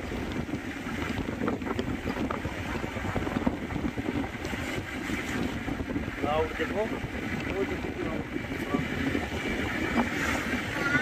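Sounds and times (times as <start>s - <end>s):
car road and engine rumble: 0.0s - 11.0s
wind buffeting microphone: 0.0s - 11.0s.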